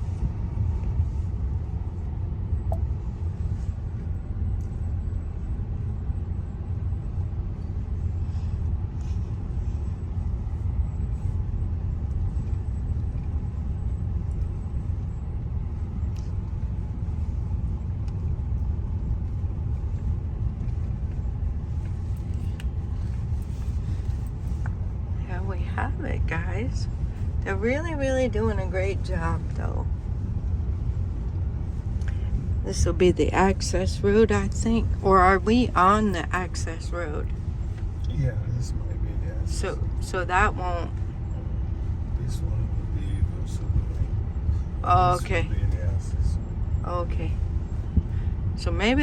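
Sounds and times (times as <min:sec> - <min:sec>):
vehicle driving rumble: 0:00.0 - 0:49.0.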